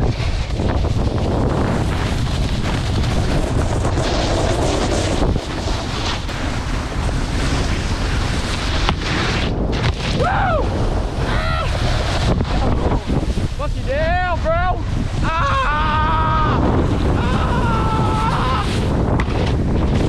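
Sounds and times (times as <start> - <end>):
snowboards sliding on snow: 0.0 - 20.0
wind buffeting microphone: 0.0 - 20.0.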